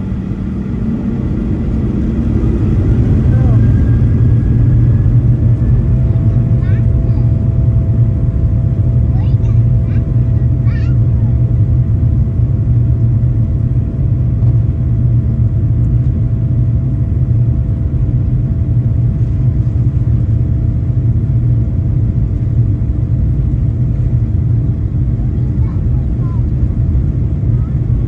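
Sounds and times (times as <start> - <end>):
jet engine low rumble: 0.0 - 28.0.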